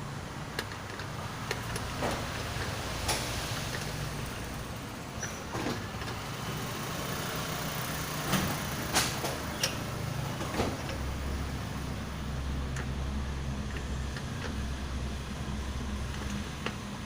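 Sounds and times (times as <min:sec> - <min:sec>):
clicks and knocks on engine parts: 0:00.3 - 0:17.0.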